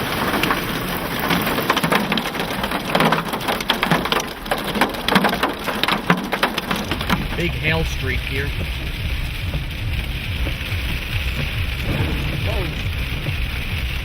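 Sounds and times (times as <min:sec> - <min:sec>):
hailstones striking hard surfaces: 0:00.0 - 0:14.0
rain hiss: 0:00.0 - 0:14.0.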